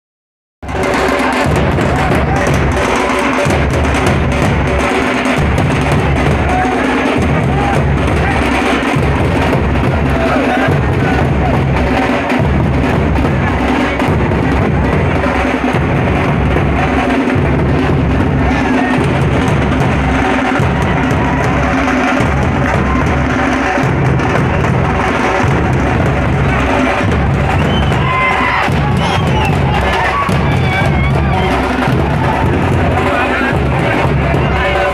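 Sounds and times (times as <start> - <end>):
barrel drums beaten with sticks: 0.6 - 34.9.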